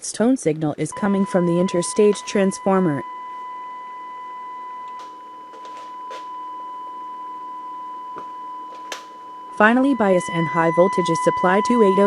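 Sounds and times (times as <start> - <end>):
sine test tone: 0.9 - 12.0.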